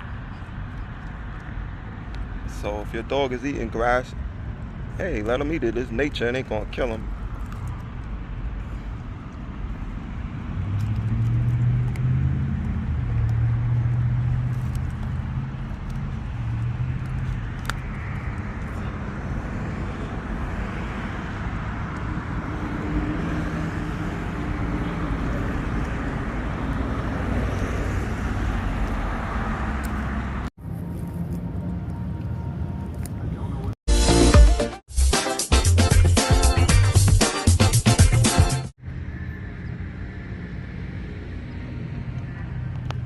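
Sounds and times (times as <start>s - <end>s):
outdoor background noise: 0.0s - 33.8s, 38.8s - 43.0s.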